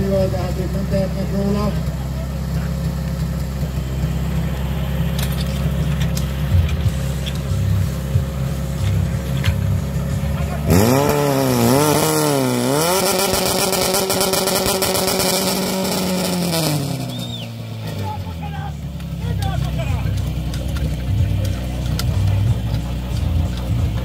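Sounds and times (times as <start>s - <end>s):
pump engine idling and revving: 0.0s - 24.0s.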